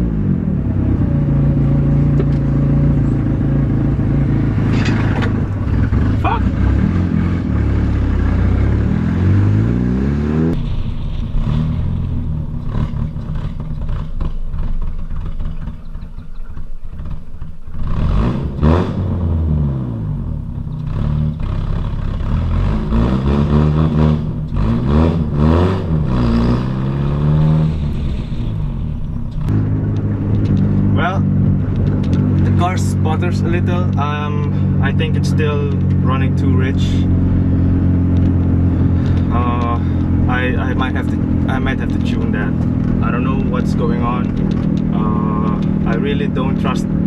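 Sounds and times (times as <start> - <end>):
car engine revving and sputtering: 0.0 - 47.0.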